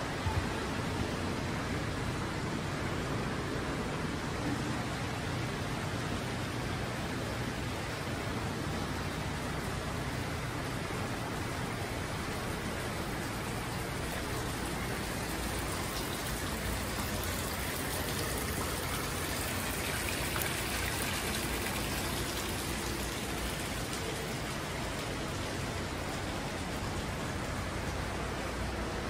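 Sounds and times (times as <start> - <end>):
fountain water splashing on stones: 0.0 - 29.0.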